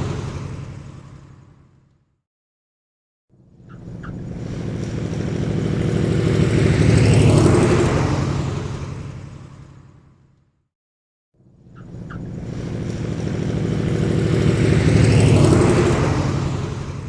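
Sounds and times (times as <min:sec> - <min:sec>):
vehicle engine passing by: 0:00.0 - 0:01.9, 0:03.5 - 0:10.3, 0:11.8 - 0:17.0.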